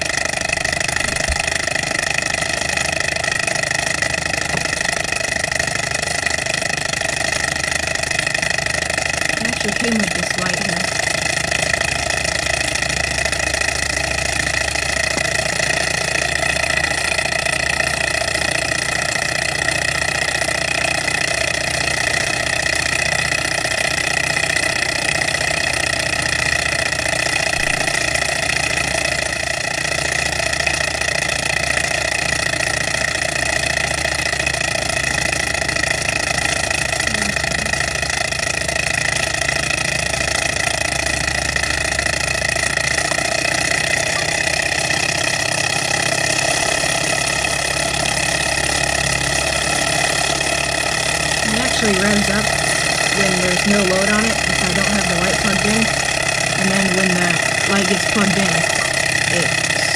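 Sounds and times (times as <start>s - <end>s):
small engine whirring: 0.0s - 59.9s.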